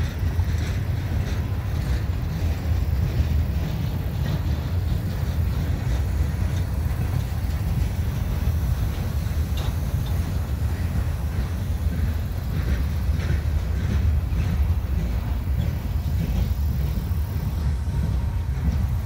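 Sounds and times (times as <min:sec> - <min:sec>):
faint clicks of rail wheels: 0:00.0 - 0:19.0
train wheels rumbling on track: 0:00.0 - 0:19.0.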